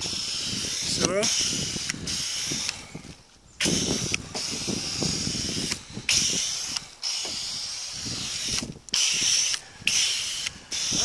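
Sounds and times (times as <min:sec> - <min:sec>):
foam gun spraying hiss: 0:00.0 - 0:11.0.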